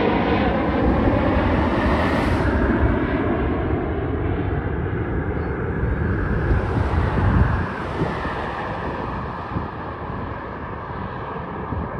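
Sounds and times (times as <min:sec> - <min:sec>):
jet engine rumble: 0:00.0 - 0:11.9
wind buffeting microphone: 0:00.0 - 0:11.9.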